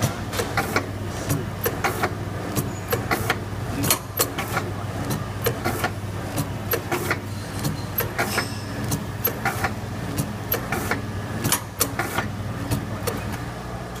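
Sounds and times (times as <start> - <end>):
packing machine motor hum: 0.0 - 14.0.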